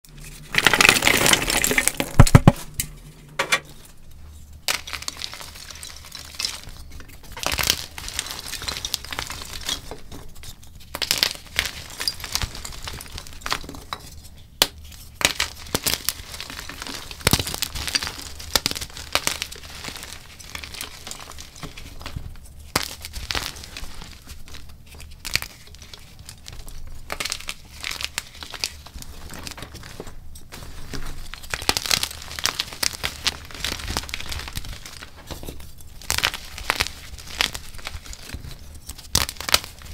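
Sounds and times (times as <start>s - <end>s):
chalk crunching and crumbling: 0.2s - 2.6s, 3.8s - 39.9s.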